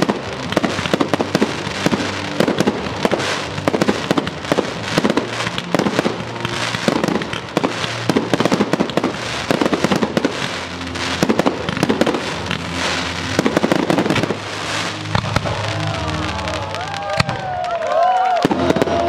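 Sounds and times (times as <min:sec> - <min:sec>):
crackling fizzing fireworks: 0:00.0 - 0:19.0.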